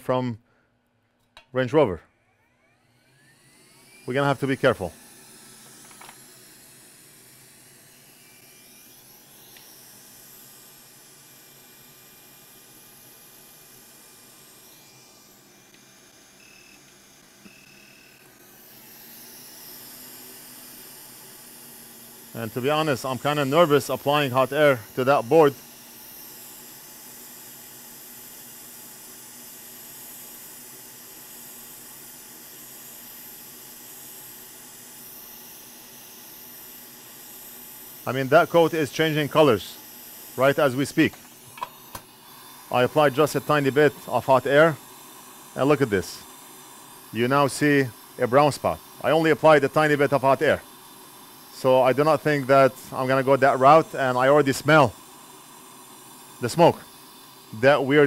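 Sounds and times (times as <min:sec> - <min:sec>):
hot-air station hissing: 0:03.2 - 0:58.0.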